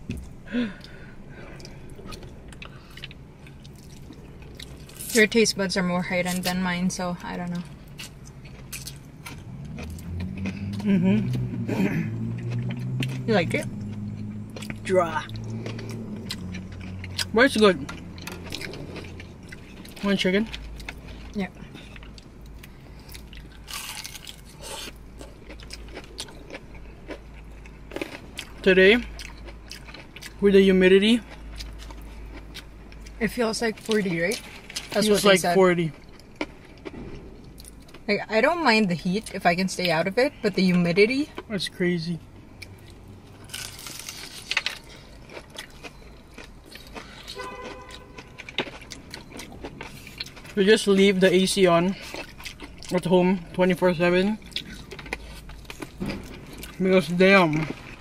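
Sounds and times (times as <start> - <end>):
chewing with wet mouth clicks: 0.2 - 5.4, 6.2 - 38.1, 42.6 - 53.6, 54.2 - 56.8.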